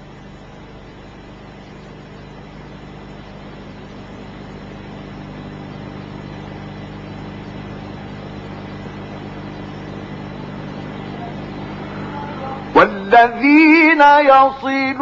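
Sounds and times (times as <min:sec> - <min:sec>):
low hum: 0:00.0 - 0:15.0
steady recording hiss: 0:00.0 - 0:15.0.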